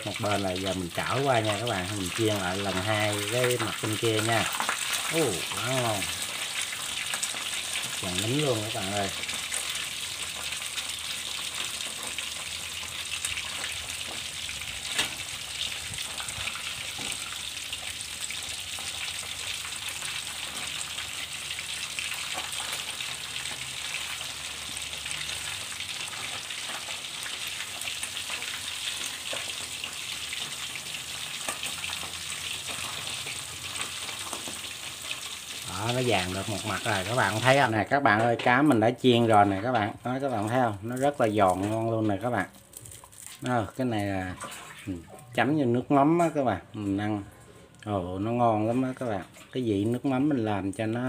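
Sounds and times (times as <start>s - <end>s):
fish sizzling in hot oil: 0.0s - 47.2s, 47.8s - 51.0s.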